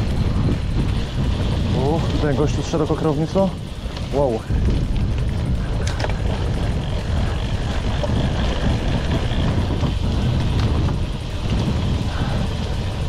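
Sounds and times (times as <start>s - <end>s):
bicycle tyres rolling on gravel: 0.0s - 13.0s
stones and bike clicking and rattling: 0.0s - 13.0s
wind buffeting microphone: 0.0s - 13.0s.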